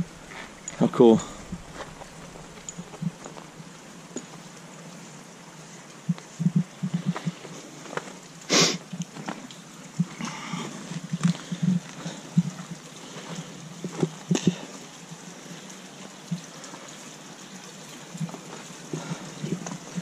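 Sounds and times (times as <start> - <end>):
waterfall splashing into pool: 0.0 - 5.2, 6.0 - 20.0.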